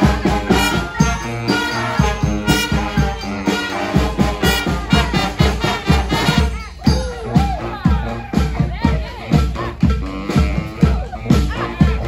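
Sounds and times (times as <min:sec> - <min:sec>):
brass street band playing: 0:00.0 - 0:12.0
jingling percussion: 0:00.0 - 0:12.0.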